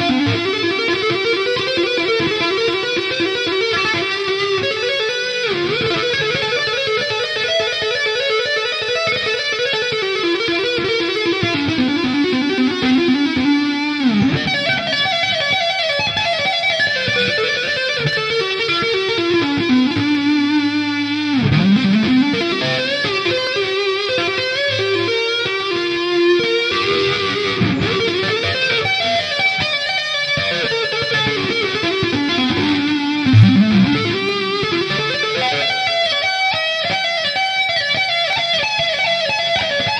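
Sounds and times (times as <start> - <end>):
electric guitar tapping runs: 0.0 - 39.9.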